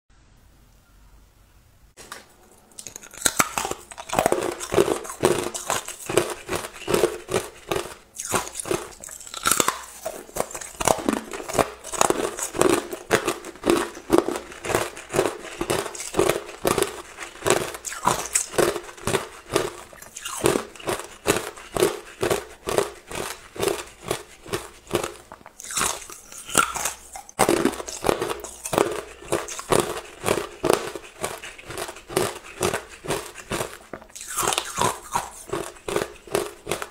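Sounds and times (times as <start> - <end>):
ice being chewed: 2.4 - 36.9.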